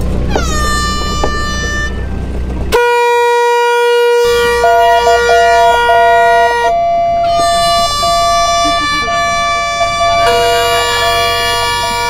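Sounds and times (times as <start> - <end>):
higher boat horn: 0.0 - 12.0
low boat horn blast: 0.0 - 12.0
third higher horn: 0.3 - 2.1, 2.7 - 12.0.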